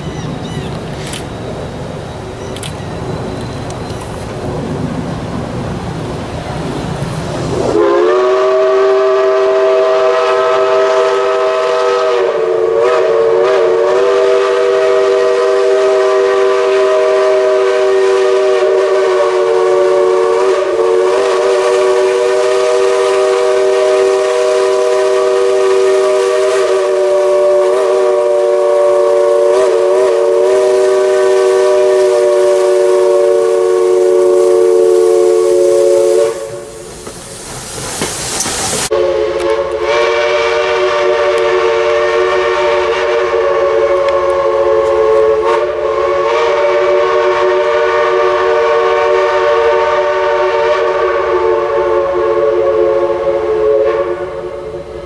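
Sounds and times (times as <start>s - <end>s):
steam venting hiss: 0.0s - 55.0s
steam locomotive chime whistle: 7.7s - 37.0s, 38.4s - 55.0s.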